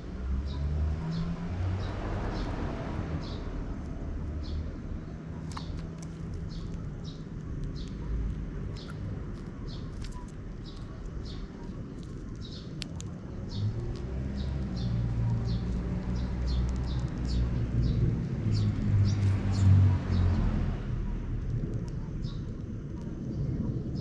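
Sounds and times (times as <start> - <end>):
sparrows chirping: 0.3 - 24.0
low rumble: 0.8 - 24.0.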